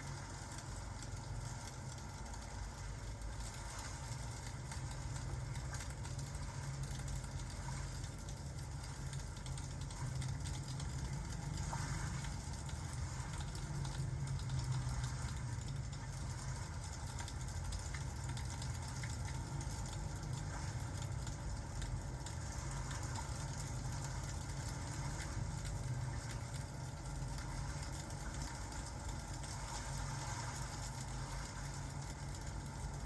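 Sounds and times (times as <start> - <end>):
fireplace crackles: 0.0 - 33.0
rain hiss: 0.0 - 33.0.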